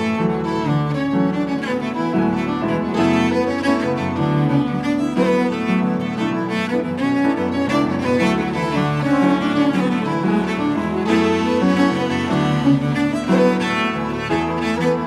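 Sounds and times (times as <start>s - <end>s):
bowed cello melody: 0.0s - 15.0s.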